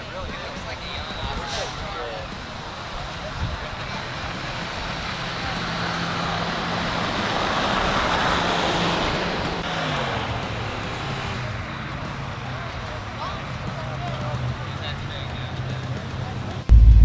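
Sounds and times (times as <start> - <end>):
vehicle passing by: 1.5 - 17.0.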